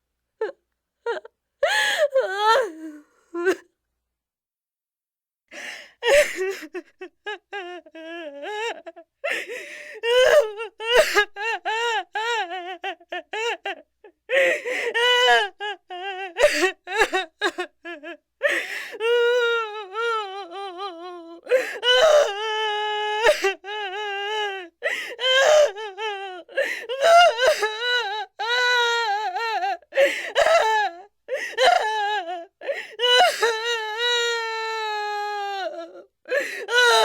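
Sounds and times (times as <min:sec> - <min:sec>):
infant crying: 0:06.1 - 0:37.0.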